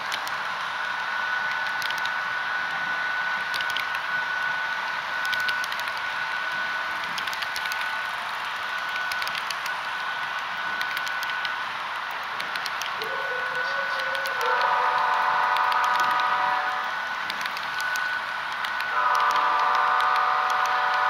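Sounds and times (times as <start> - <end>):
model train wheels hissing on rails: 0.0 - 21.0.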